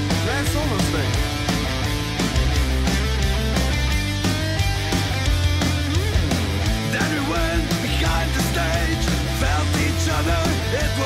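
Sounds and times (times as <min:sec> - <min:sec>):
background rock music: 0:00.0 - 0:11.0.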